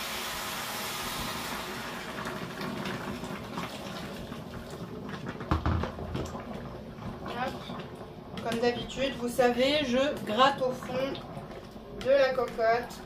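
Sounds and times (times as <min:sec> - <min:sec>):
water pouring from a kettle: 0:00.0 - 0:13.0.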